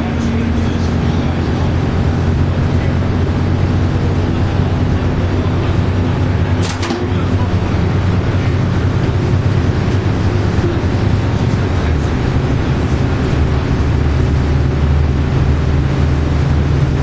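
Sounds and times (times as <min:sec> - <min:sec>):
bus diesel engine running: 0:00.0 - 0:17.0
road and tyre noise: 0:00.0 - 0:17.0.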